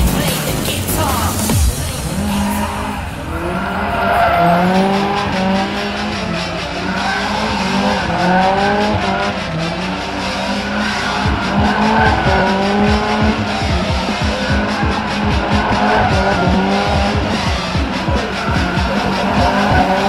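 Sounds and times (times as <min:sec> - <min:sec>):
car engine revving hard: 0:00.0 - 0:20.0
tyres squealing: 0:00.9 - 0:20.0.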